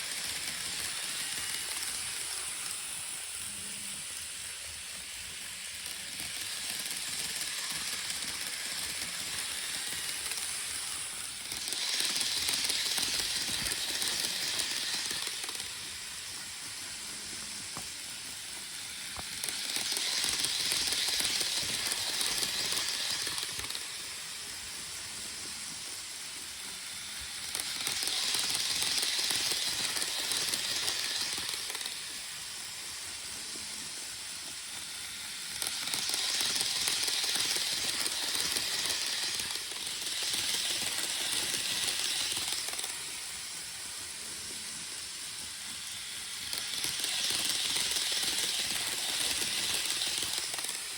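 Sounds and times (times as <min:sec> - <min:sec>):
model train wheels and motor: 0:00.0 - 0:50.9.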